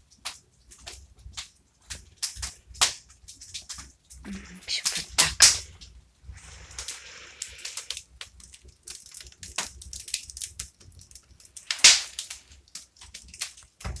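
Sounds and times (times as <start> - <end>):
fire crackling in a fireplace: 0.0 - 14.0.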